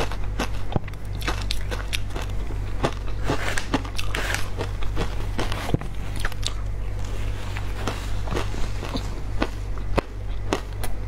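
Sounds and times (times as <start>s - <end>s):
crunching and chewing ice: 0.0s - 11.0s
low hum: 0.0s - 11.0s.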